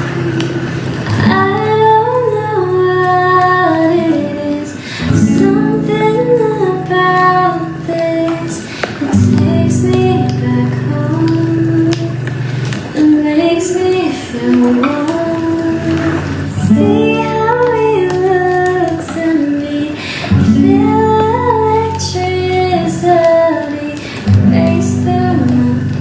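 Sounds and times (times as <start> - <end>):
guitar accompaniment: 0.0 - 26.0
woman singing: 1.0 - 26.0.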